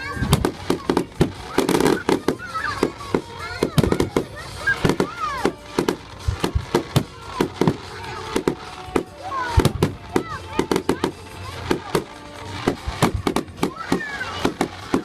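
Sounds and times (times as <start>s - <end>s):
fireworks bangs: 0.0s - 15.0s
fireworks squealing glides: 0.0s - 15.0s.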